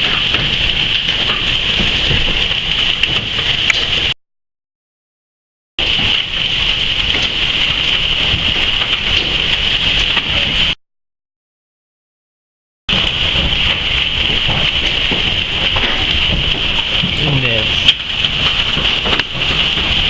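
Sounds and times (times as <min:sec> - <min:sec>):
hail and heavy rain: 0:00.0 - 0:04.2, 0:05.8 - 0:10.8, 0:12.9 - 0:20.0.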